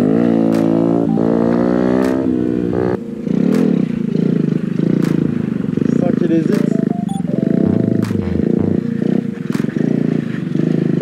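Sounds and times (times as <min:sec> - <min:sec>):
motorcycle engine revving: 0:00.0 - 0:06.8, 0:07.5 - 0:11.0.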